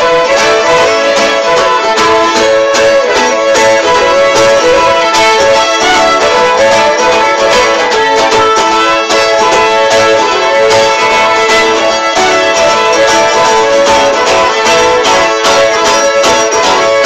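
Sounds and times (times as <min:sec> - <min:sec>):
folk fiddle tune: 0:00.0 - 0:17.0.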